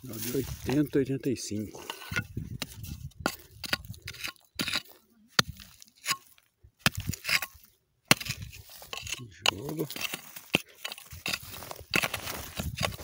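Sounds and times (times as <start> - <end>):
hoe striking stony soil: 1.6 - 13.0.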